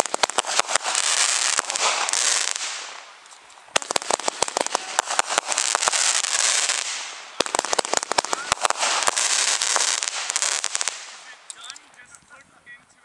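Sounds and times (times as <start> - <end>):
fireworks rapid sharp pops: 0.0 - 12.0
fireworks crackling hiss: 0.0 - 12.4.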